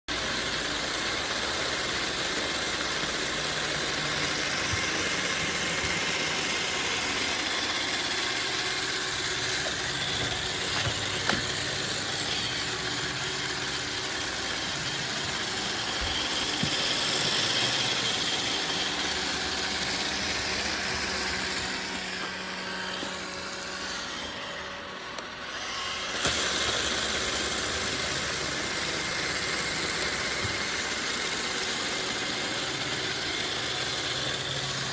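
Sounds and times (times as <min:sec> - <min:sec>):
robot vacuum whirring: 0:00.1 - 0:34.9.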